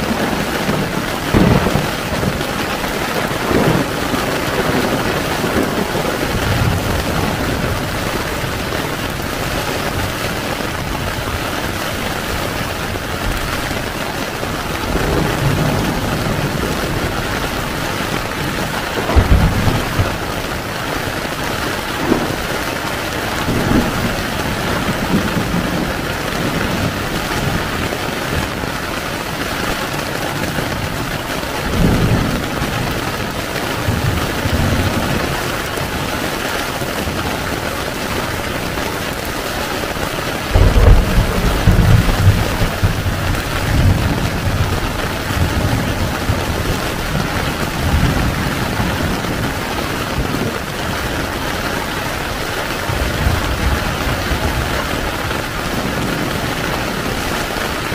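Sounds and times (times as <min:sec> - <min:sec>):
heavy rain on a tent: 0:00.0 - 0:57.9.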